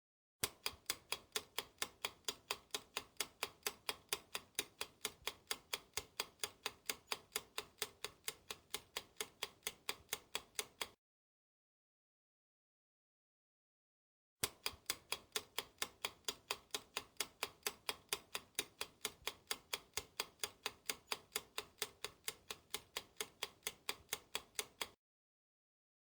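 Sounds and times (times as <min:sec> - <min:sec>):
clock ticking: 0:00.4 - 0:11.0, 0:14.4 - 0:25.0.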